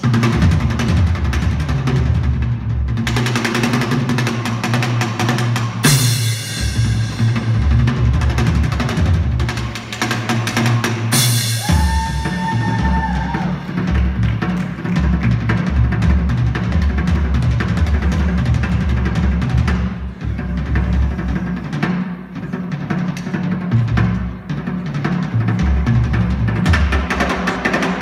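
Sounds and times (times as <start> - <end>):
drum kit solo: 0.0 - 28.0.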